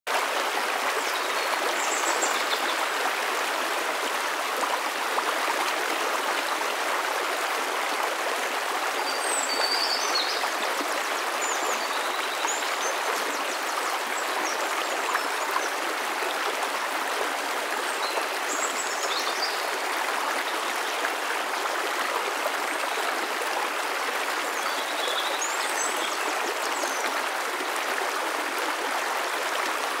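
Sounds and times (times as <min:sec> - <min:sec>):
stream babbling over stones: 0:00.1 - 0:30.0.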